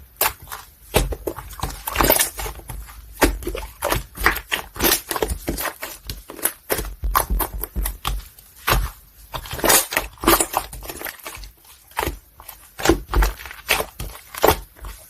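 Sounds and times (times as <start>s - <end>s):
slime squishing thuds: 0.0s - 15.0s.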